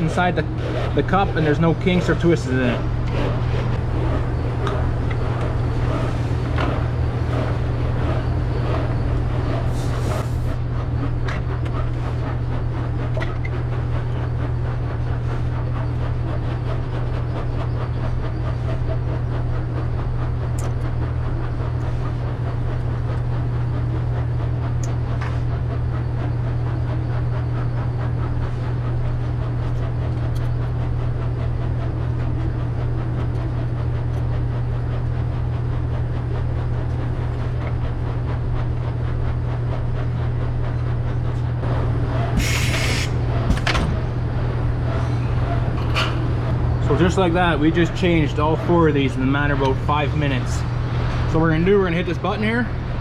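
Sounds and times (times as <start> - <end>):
machine hum: 0.0 - 53.0.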